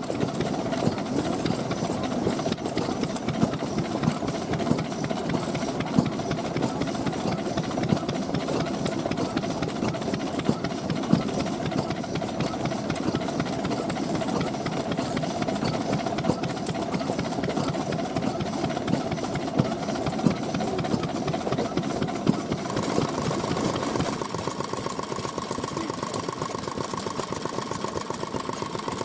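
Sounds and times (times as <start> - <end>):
stationary engines running: 0.0 - 29.0.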